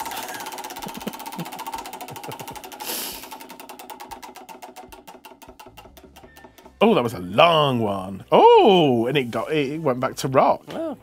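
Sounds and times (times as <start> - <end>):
roulette wheel spinning and ticking: 0.0 - 9.5.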